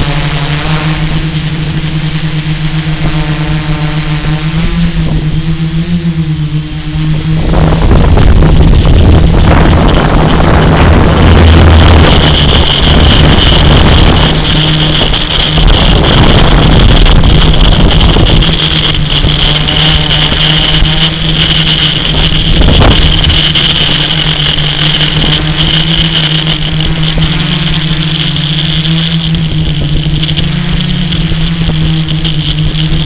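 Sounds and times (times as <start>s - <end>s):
drone propellers whining: 0.0s - 33.0s
wind rumbling on microphone: 0.0s - 33.0s.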